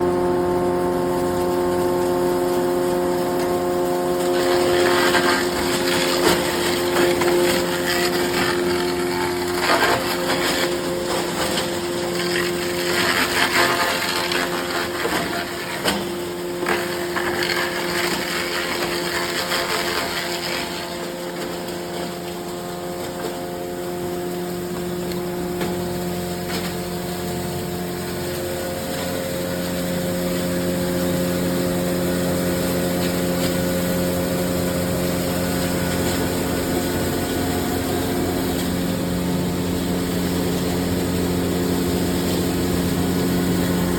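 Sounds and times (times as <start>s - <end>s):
wood crusher machine humming: 0.0s - 43.9s
crackling clatter of wood grinding: 1.1s - 43.9s.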